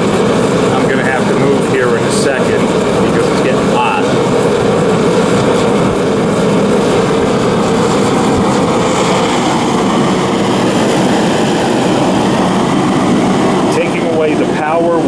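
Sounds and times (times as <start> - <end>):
propane heater fan and burner rushing: 0.0 - 15.0.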